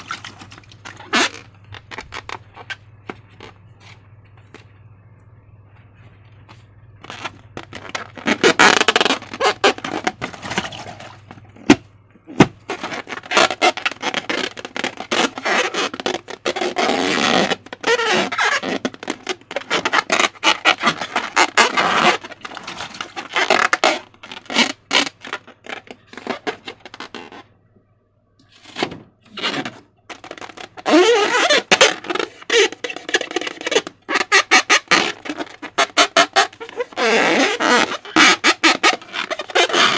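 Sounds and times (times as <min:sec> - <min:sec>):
rubbery squeaks: 0:00.0 - 0:04.0, 0:07.0 - 0:27.5, 0:28.5 - 0:39.9.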